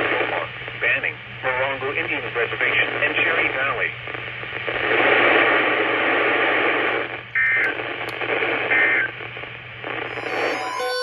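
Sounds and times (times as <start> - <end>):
radio hiss and static: 0.0 - 10.4.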